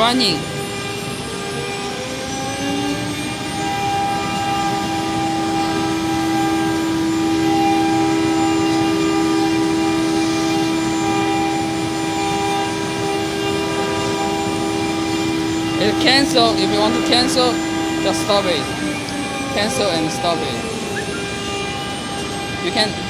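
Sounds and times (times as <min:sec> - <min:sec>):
constant machine noise: 0:00.0 - 0:23.0
spindle motor whine: 0:00.0 - 0:23.0.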